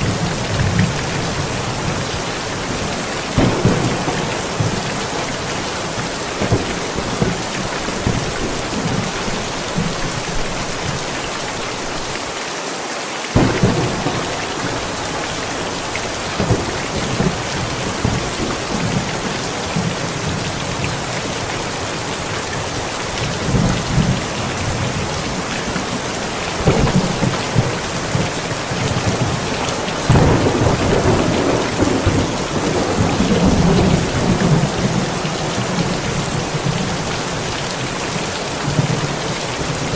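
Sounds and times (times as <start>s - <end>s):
thunder rumbling: 0.0s - 12.1s, 13.4s - 39.9s
heavy rain falling: 0.0s - 39.9s.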